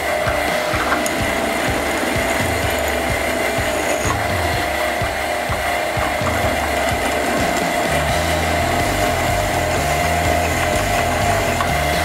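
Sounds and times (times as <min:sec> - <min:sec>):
drill bit cutting steel: 0:00.0 - 0:12.0
drill press whining: 0:00.0 - 0:12.0.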